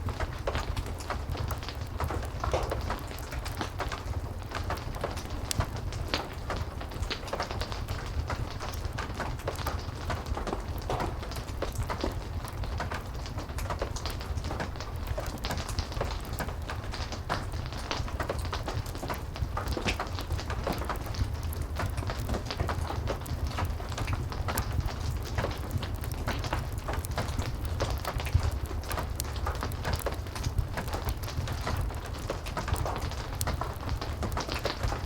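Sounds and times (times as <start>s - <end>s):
heavy rain: 0.0s - 35.0s
wood fire crackling: 0.0s - 35.0s.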